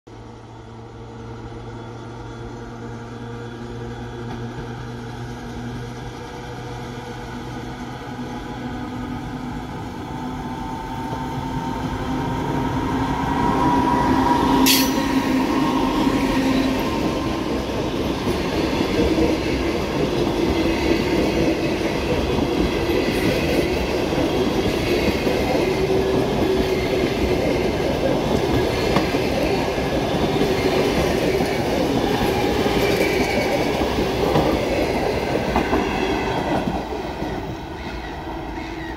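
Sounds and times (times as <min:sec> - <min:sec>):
electric locomotive passing: 0:00.1 - 0:38.9
train carriages rushing by: 0:00.2 - 0:38.9.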